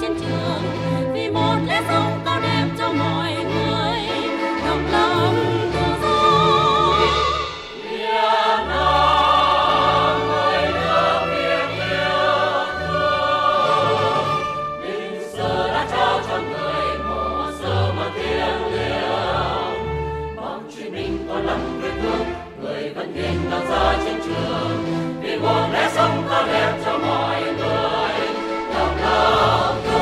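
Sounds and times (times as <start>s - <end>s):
instrumental accompaniment: 0.0s - 30.0s
mixed choir singing: 0.0s - 30.0s.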